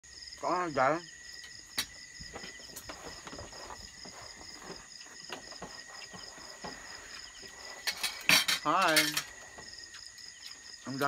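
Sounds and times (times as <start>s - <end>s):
insect high trill: 0.1s - 11.0s
insect pulsing chirp: 0.1s - 11.0s.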